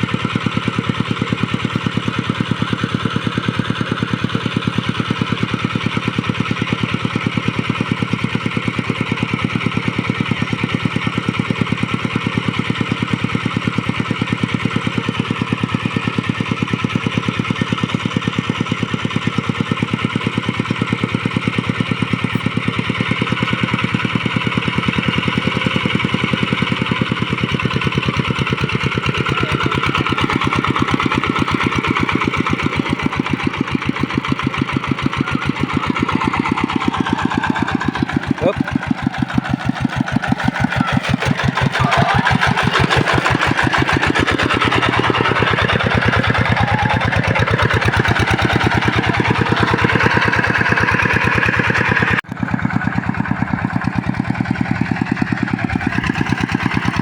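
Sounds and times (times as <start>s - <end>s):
hand tractor engine running: 0.0s - 57.0s.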